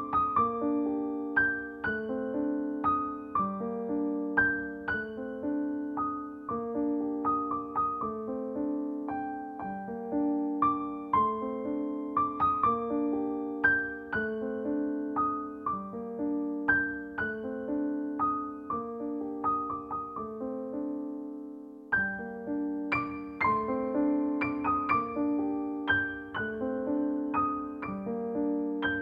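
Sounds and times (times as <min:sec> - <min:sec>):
calm piano music: 0:00.0 - 0:29.0.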